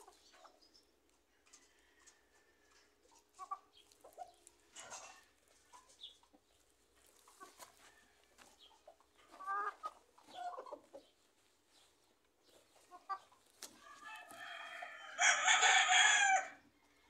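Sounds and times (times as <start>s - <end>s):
chickens clucking: 0.0s - 15.6s.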